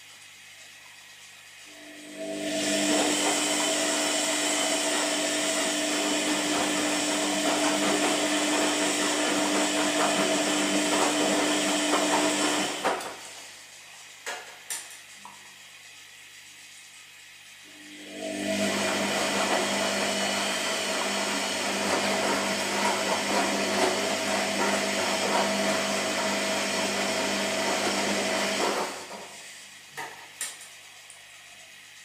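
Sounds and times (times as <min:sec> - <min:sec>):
washing machine whirring hum: 0:00.0 - 0:32.0.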